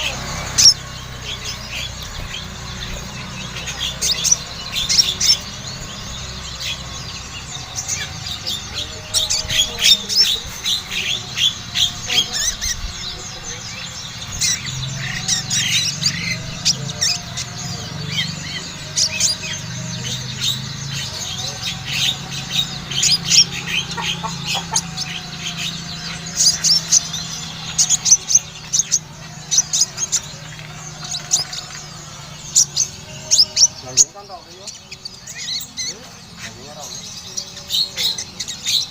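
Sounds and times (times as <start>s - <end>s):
bird chirping and trilling: 0.0s - 38.9s.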